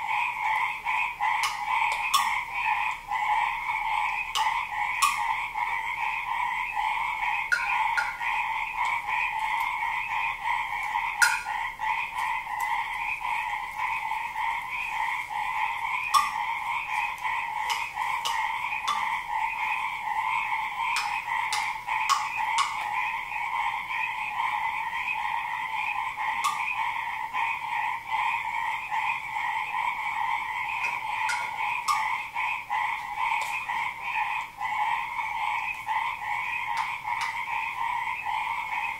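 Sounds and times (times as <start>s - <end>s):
frogs croaking and trilling: 0.0s - 38.9s.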